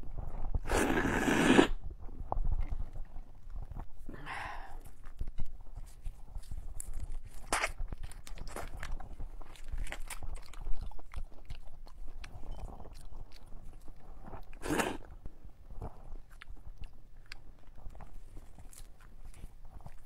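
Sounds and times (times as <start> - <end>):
chewing and crunching: 1.8 - 4.1, 4.7 - 20.0.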